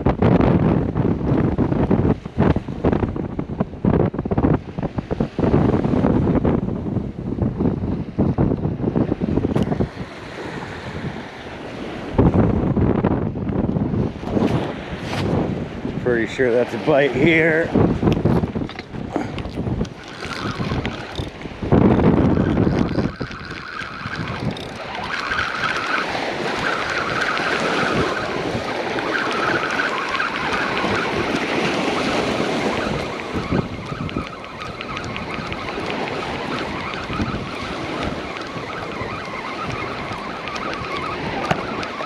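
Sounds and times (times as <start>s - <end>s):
ocean surf washing: 0.0s - 42.0s
wind buffeting microphone: 0.0s - 42.0s.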